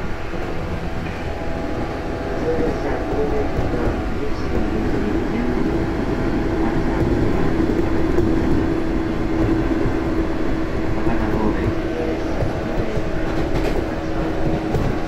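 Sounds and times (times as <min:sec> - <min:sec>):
train humming tone: 0:00.0 - 0:15.0
train wheels rumbling on rail: 0:00.0 - 0:15.0.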